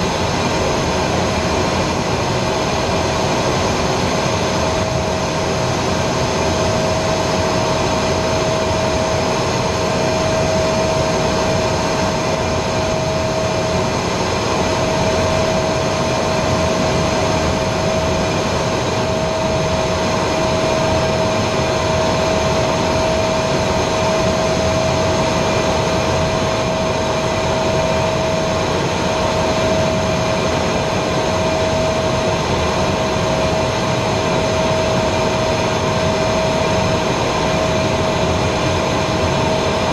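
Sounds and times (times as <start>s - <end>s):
constant whine: 0.0s - 39.9s
jet engine running: 0.0s - 39.9s
rush of airflow: 0.0s - 39.9s.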